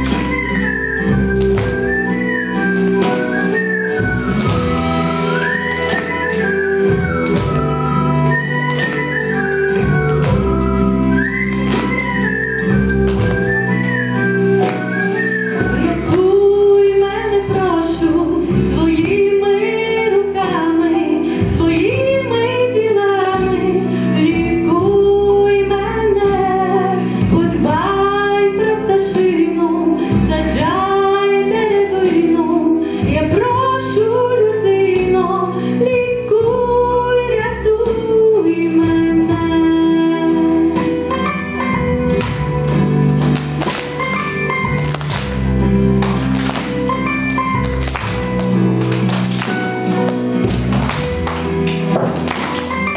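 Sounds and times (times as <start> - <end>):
instrumental backing track: 0.0 - 52.9.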